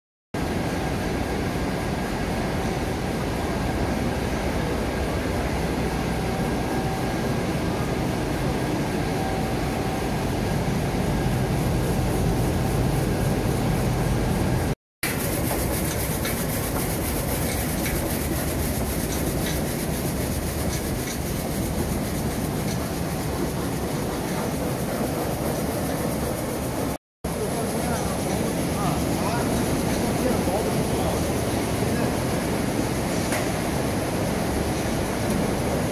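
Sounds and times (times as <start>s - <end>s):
machinery rumble: 0.4s - 35.9s.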